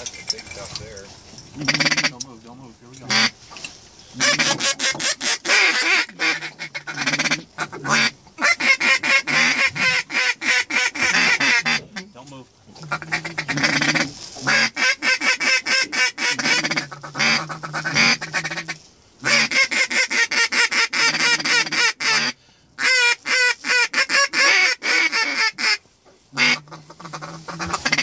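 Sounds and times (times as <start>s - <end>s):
waterfowl call chattering: 1.6s - 2.2s, 3.1s - 3.4s, 4.1s - 12.1s, 12.8s - 28.0s.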